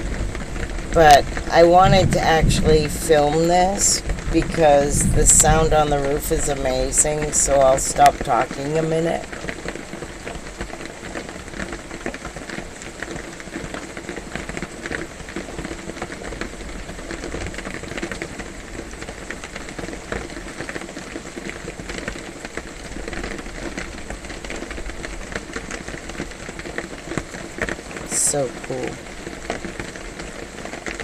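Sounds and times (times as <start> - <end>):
heavy rain on a metal roof: 0.0 - 31.0.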